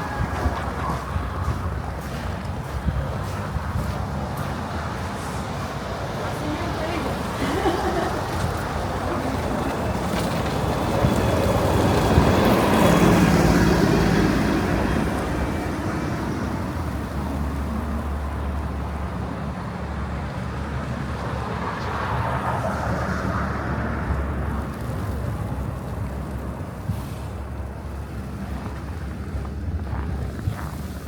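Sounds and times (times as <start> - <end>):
vehicle passing: 0.0 - 31.0.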